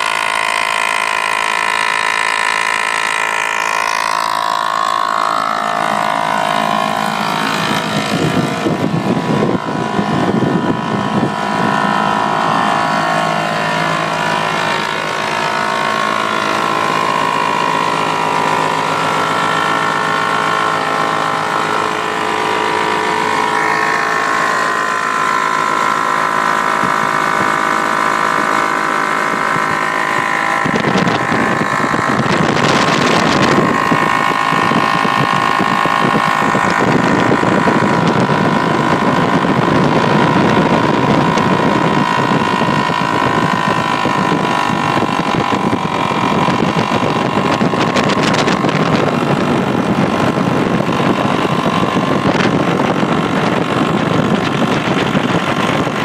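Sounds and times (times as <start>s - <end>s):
two-stroke aircraft engine running: 0.0s - 56.0s.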